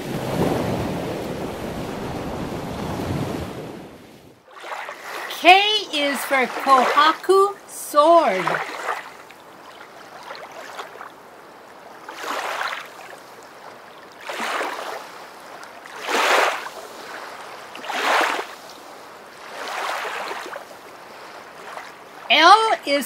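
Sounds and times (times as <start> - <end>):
water washing in soft swooshes: 0.0 - 22.4.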